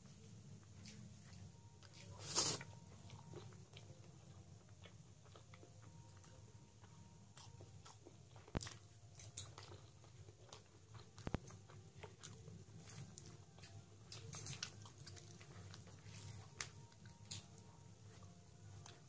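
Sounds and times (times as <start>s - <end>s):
close-up chewing and mouth sounds: 0.6s - 19.0s.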